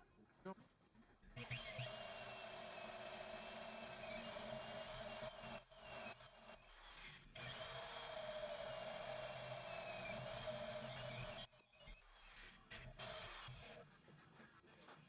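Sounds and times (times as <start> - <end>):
electric drill boring into metal: 1.4 - 13.8.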